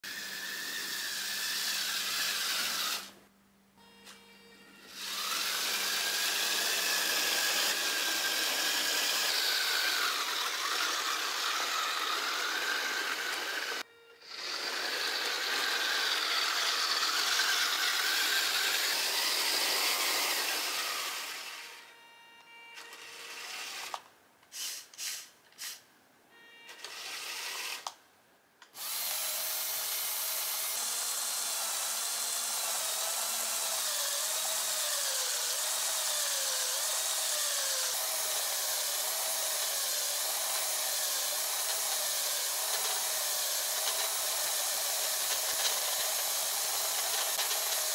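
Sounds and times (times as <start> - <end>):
toy electric motors whining: 0.0 - 3.2, 4.8 - 21.9, 22.8 - 25.8, 26.6 - 28.0, 28.7 - 47.9.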